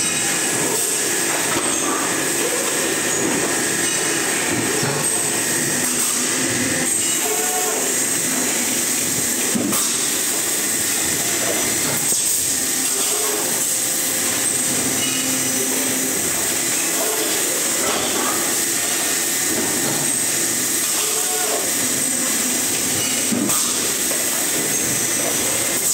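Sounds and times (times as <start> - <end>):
high whine: 0.0 - 25.8
loud machine noise: 0.0 - 25.9.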